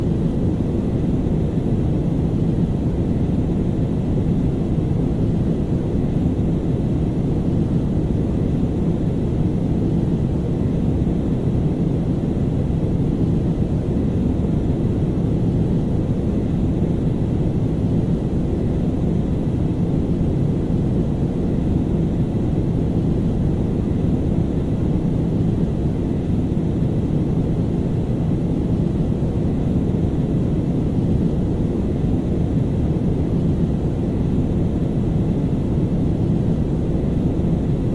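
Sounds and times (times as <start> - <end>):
airplane cabin drone: 0.0 - 37.9.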